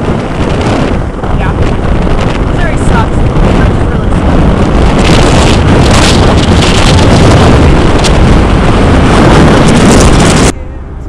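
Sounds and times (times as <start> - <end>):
low car rumble: 0.0 - 11.0
wind rushing over microphone: 0.0 - 11.0.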